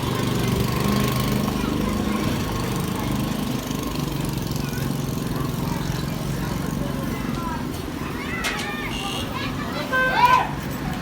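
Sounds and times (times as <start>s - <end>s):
engine running steadily: 0.0s - 9.1s.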